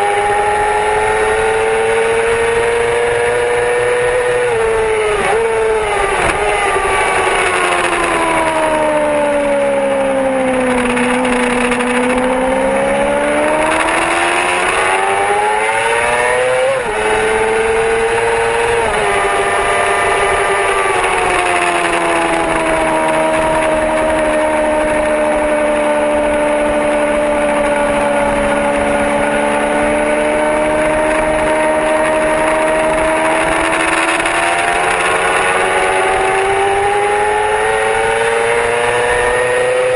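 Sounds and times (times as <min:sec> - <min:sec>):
sport bike engine: 0:00.0 - 0:39.9.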